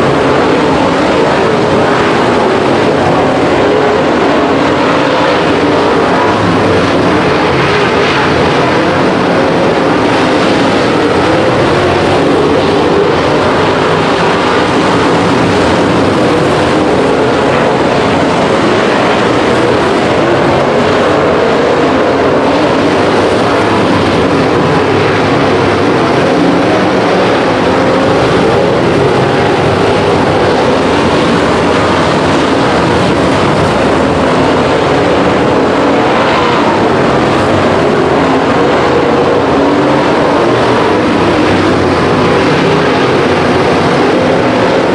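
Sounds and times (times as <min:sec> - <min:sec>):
race car engines: 0:00.0 - 0:44.9.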